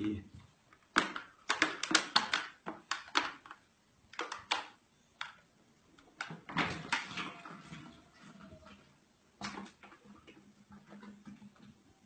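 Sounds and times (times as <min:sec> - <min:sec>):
plastic jug clicking and crinkling: 0:00.7 - 0:12.0.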